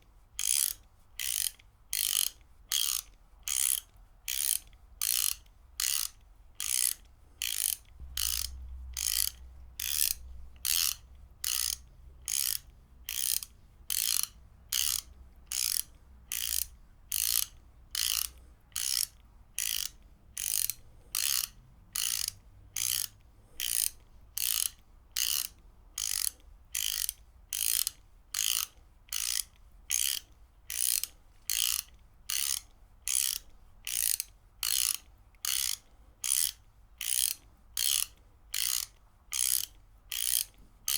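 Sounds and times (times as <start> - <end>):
ratchet wrench clicking: 0.4 - 40.9.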